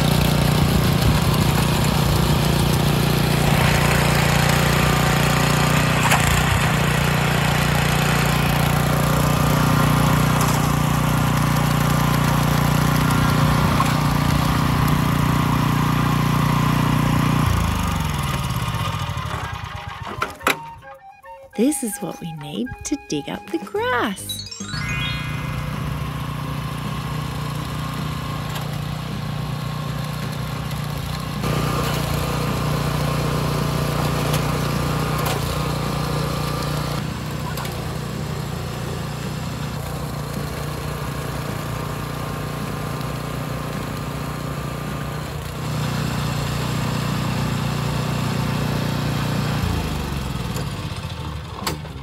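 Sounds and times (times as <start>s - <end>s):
trencher engine running: 0.0s - 20.4s, 25.2s - 52.0s.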